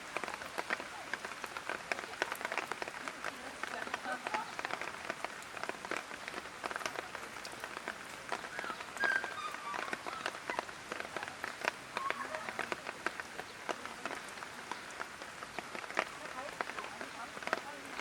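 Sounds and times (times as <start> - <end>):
light rain hiss: 0.0 - 18.0
raindrop ticks and splashes: 0.0 - 18.0.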